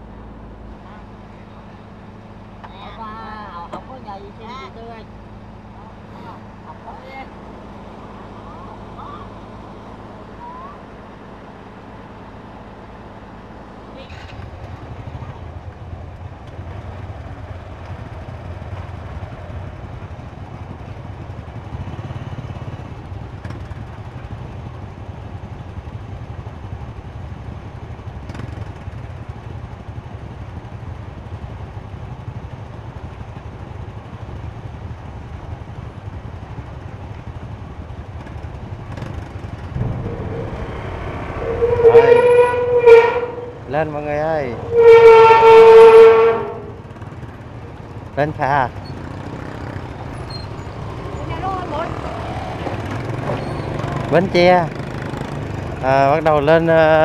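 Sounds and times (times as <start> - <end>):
ferry engine droning: 0.0 - 57.0.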